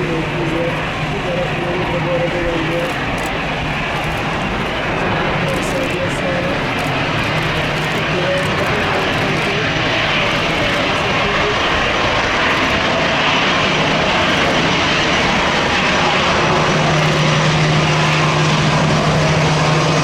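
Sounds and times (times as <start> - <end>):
jet engines running loudly: 0.0 - 20.0
steady low hum: 0.0 - 20.0.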